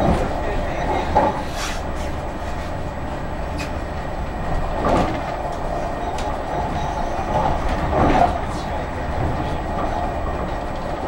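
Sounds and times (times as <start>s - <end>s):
wheels rumbling on rails: 0.0s - 11.0s.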